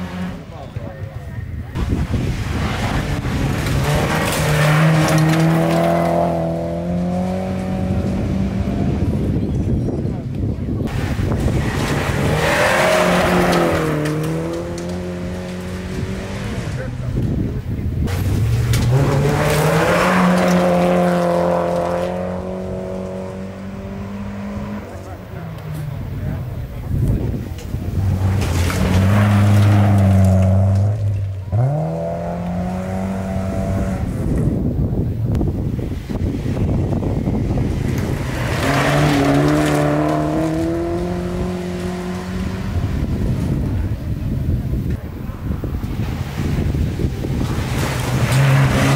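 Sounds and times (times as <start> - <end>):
rally car engine at high revs: 0.0 - 0.5, 1.8 - 9.4, 10.9 - 17.4, 18.1 - 26.2, 27.2 - 34.7, 36.1 - 44.2, 45.7 - 48.9
gravel and tyre noise: 0.0 - 48.9
wind rumble on microphone: 0.6 - 48.9.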